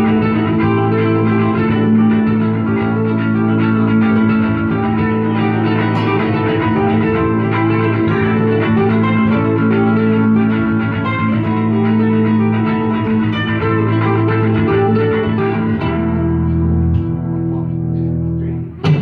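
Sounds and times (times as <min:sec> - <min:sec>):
electric guitars playing: 0:00.0 - 0:19.0.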